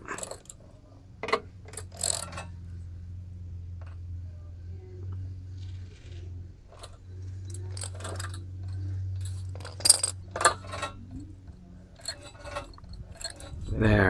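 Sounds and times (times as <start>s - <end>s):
metal tools clinking: 0.0s - 4.3s, 5.0s - 14.0s
steady low hum: 0.0s - 14.0s.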